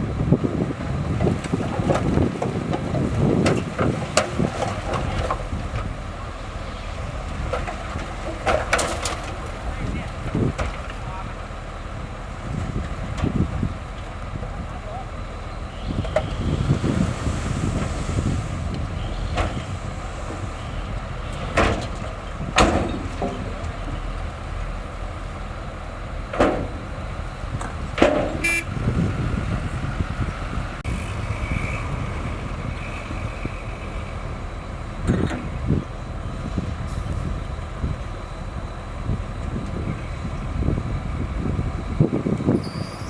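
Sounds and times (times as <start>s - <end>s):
diesel machinery engine rumble: 0.0s - 43.0s.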